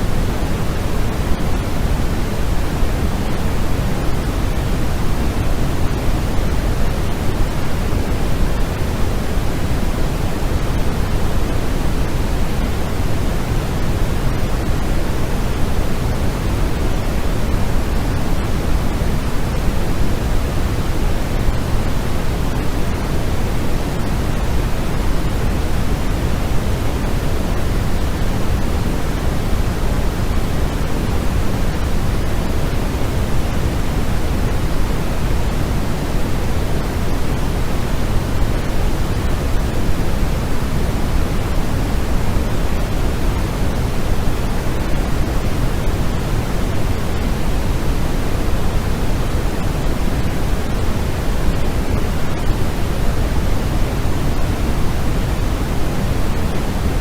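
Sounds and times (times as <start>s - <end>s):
deep white noise hiss: 0.0s - 57.0s.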